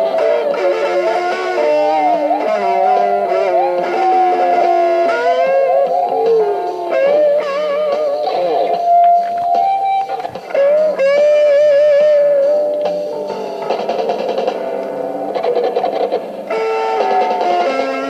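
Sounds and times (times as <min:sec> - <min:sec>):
electric guitar lead line: 0:00.0 - 0:18.0.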